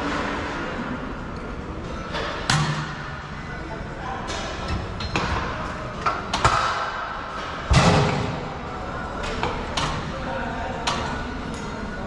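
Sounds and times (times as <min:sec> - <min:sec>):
steady background din: 0:00.0 - 0:12.0.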